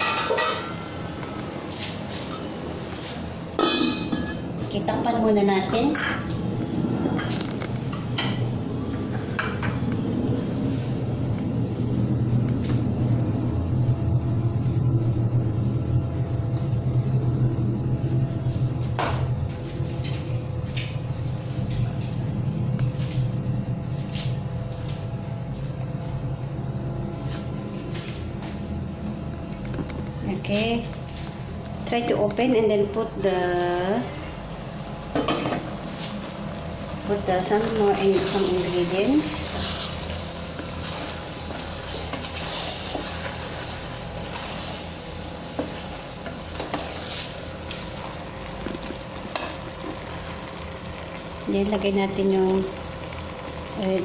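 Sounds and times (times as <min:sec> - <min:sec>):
faint hum: 0:00.0 - 0:54.0
low rumble of pot cooking: 0:00.0 - 0:54.0.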